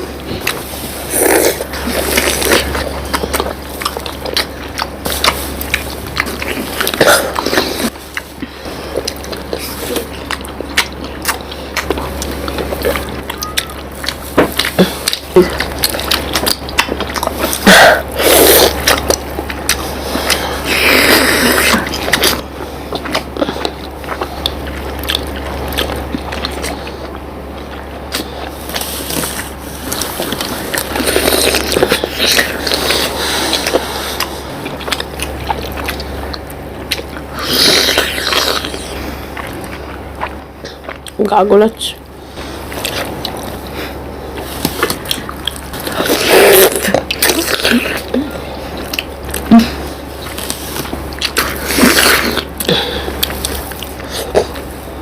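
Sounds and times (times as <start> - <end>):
steady low hum: 0.0 - 55.0
wet chewing and slurping: 0.0 - 55.0.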